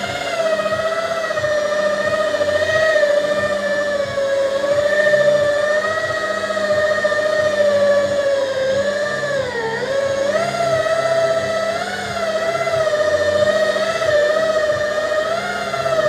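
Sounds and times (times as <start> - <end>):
car polisher motor whine: 0.0 - 16.0.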